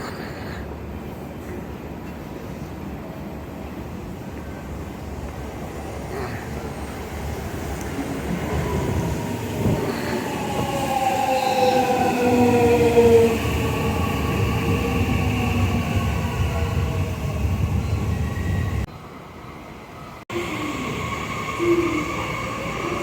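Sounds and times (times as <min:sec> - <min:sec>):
electric train rumbling: 0:00.8 - 0:23.0.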